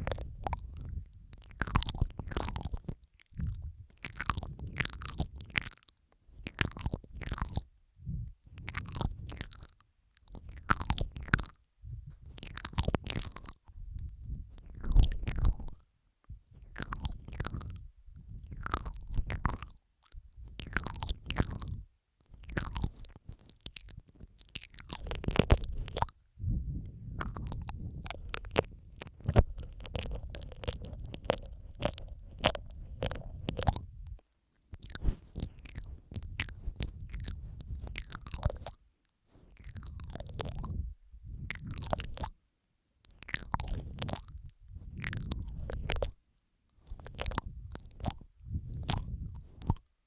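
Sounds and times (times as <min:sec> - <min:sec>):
wet mouth clicks and smacks: 0:00.0 - 0:07.7, 0:08.3 - 0:26.2, 0:27.1 - 0:42.4, 0:43.0 - 0:49.9.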